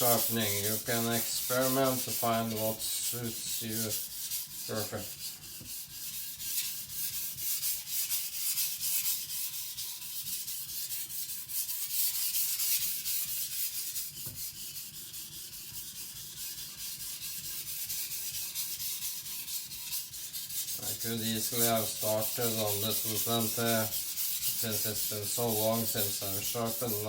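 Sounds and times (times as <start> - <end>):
knife scraping on whetstone: 0.0 - 27.0.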